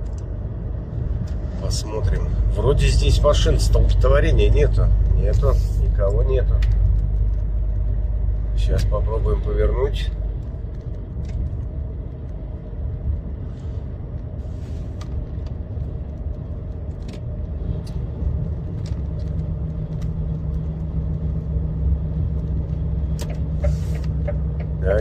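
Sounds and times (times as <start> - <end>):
diesel truck engine: 0.0 - 25.0
road rumble: 0.0 - 25.0.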